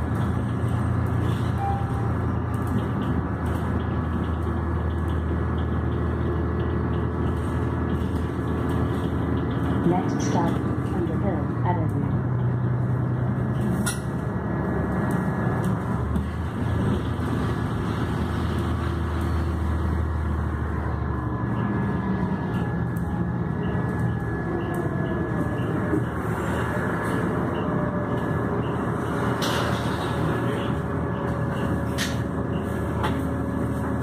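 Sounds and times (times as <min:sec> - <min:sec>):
bus engine drone: 0:00.0 - 0:34.0
road noise: 0:00.0 - 0:34.0.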